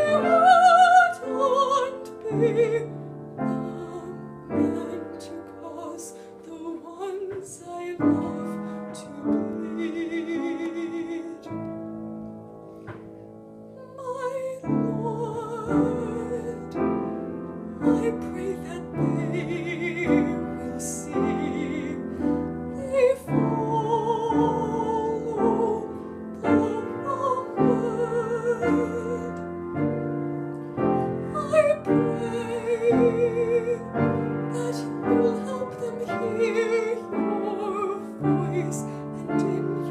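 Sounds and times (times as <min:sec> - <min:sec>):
piano accompaniment: 0:00.0 - 0:39.9.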